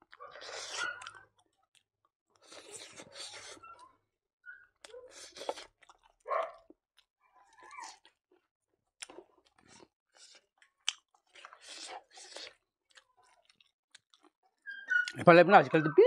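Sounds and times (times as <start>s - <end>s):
man chewing food: 0.1s - 4.0s, 4.6s - 15.2s.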